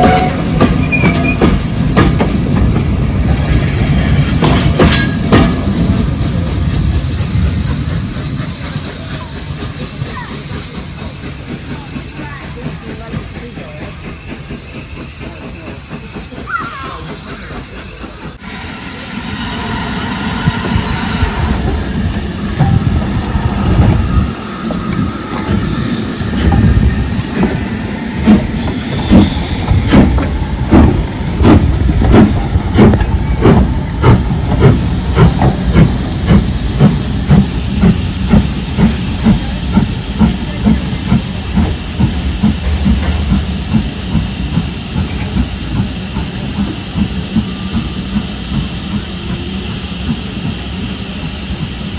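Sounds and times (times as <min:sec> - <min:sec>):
loud hiss of steam: 0:00.0 - 0:51.9
steam locomotive chuffing: 0:00.0 - 0:51.9.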